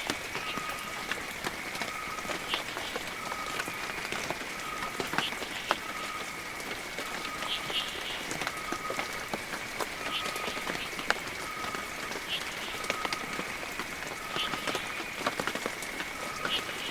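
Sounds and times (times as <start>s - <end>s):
heavy rain falling: 0.0s - 16.9s.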